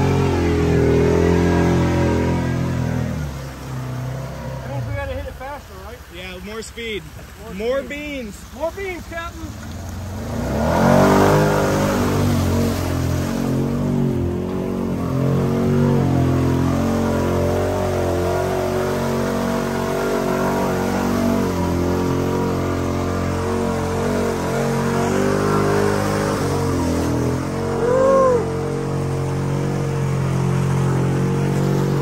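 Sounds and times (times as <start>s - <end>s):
engine pulling hard: 0.0s - 32.0s
water rushing and splashing: 0.0s - 32.0s.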